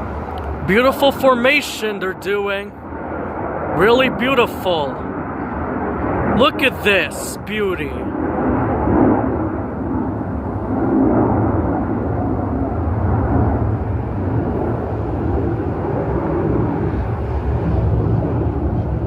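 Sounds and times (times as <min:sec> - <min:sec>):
jet roar: 0:00.0 - 0:19.0.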